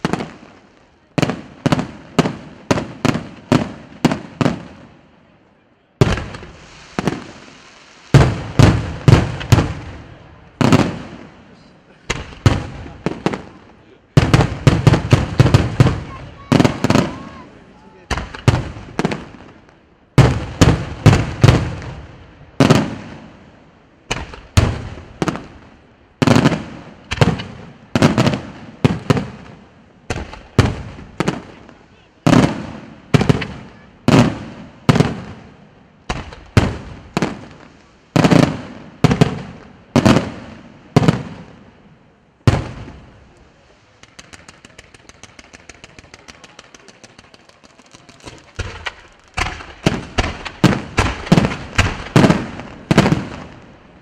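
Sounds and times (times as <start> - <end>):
fireworks bursting with bangs: 0.0 - 5.3, 6.0 - 54.0.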